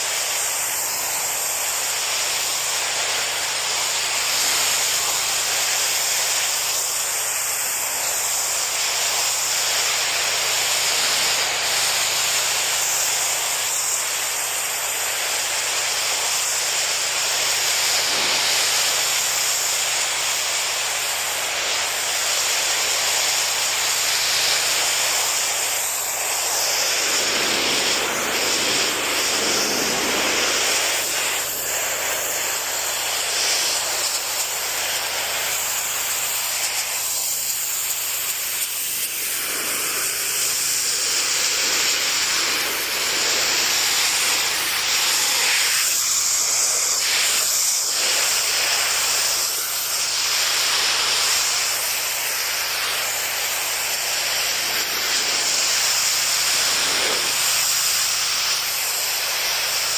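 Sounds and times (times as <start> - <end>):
pressure washer spraying: 0.0 - 59.9.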